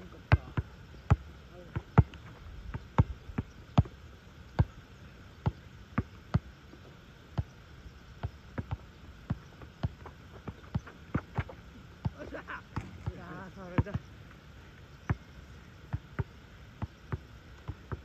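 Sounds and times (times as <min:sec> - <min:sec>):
basketball bouncing on asphalt: 0:00.1 - 0:04.8, 0:05.4 - 0:06.6, 0:07.3 - 0:14.2, 0:15.0 - 0:18.0.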